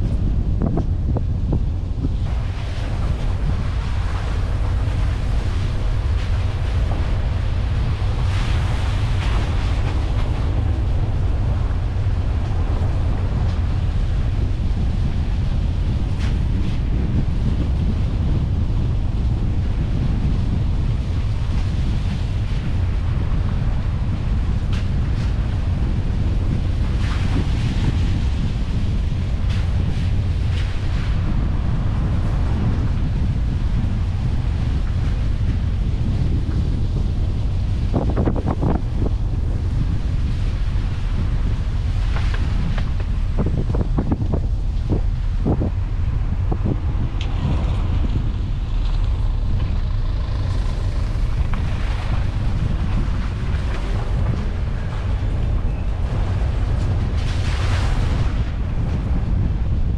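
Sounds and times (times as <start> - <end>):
tyre and road noise: 0.0 - 59.9
wind buffeting microphone: 0.0 - 59.9.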